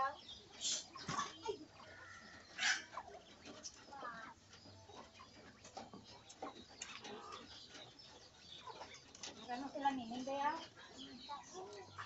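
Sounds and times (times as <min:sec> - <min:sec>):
quail chirping and clucking: 0:00.0 - 0:12.0.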